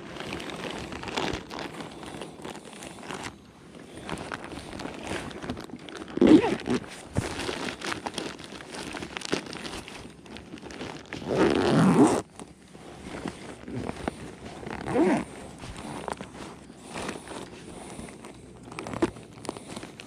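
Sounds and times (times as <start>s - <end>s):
fishing gear rustling and scraping: 0.0s - 20.0s.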